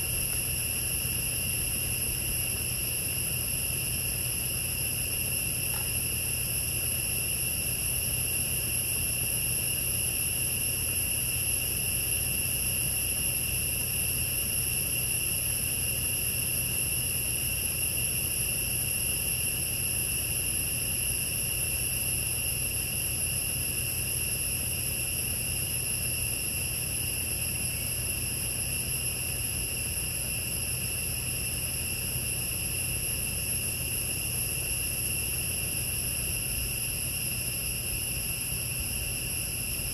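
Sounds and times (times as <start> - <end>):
forest insects droning: 0.0 - 39.9.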